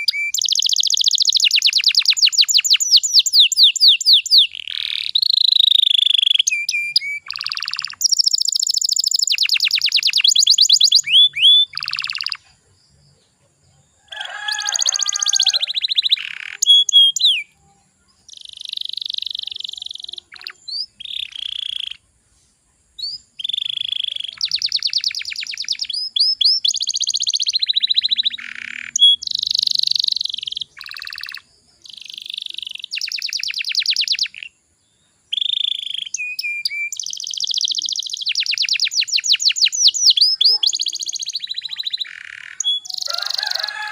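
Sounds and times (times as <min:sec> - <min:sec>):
canary singing: 0:00.0 - 0:22.1, 0:23.0 - 0:34.6, 0:35.3 - 0:43.9.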